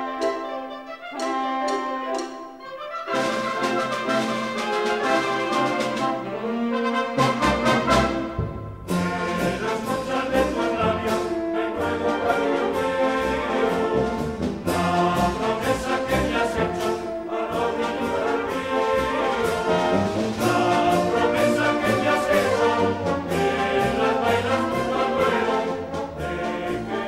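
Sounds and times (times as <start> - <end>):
trumpets and trombones playing: 0.0 - 27.0.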